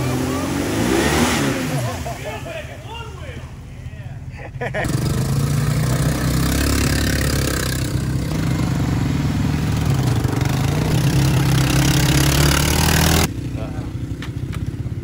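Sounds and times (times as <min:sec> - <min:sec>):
quad bike engines running: 0:00.0 - 0:15.0.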